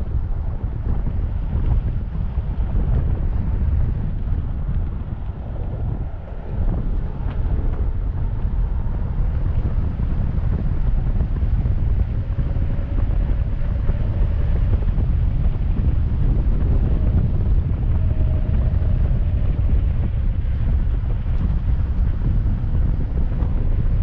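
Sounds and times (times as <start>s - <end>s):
faint whine: 0.0s - 24.0s
wind buffeting microphone: 0.0s - 24.0s.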